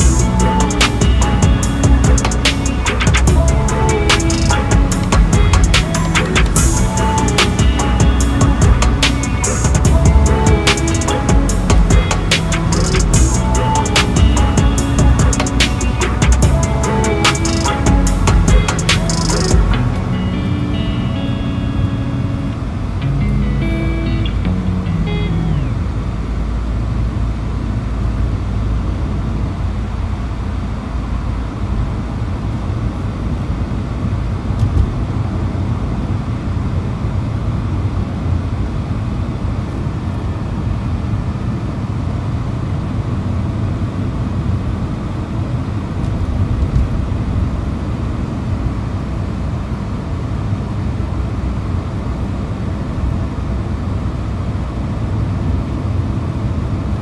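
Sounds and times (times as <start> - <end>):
road vehicle rumbling: 0.0 - 57.0.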